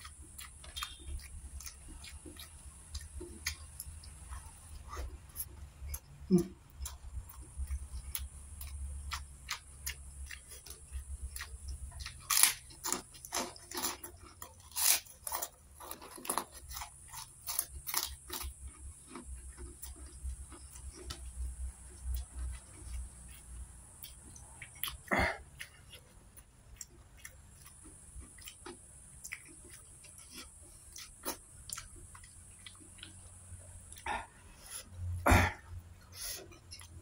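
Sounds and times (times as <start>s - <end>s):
crunchy food chewing: 0.0s - 37.0s.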